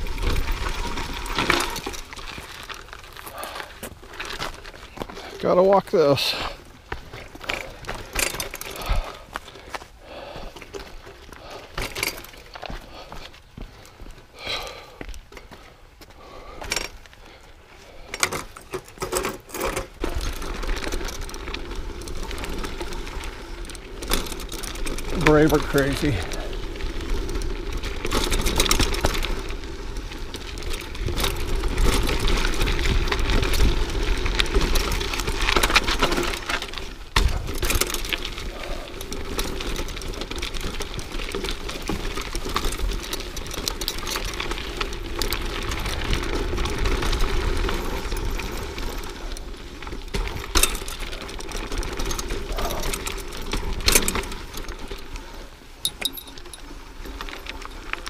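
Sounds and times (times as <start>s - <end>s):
bike rattling and clicking: 0.0s - 58.0s
tyres on dirt and stones: 0.0s - 58.0s.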